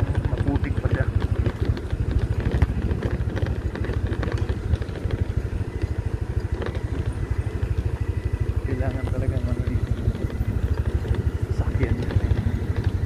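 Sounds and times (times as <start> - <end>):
bike knocks and rattles: 0.0 - 13.0
motorcycle engine running: 0.0 - 13.0.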